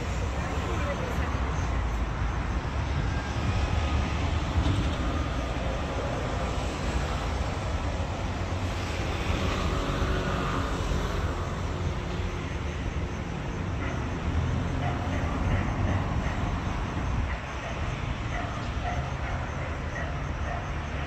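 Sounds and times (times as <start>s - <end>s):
low city rumble: 0.0s - 21.0s.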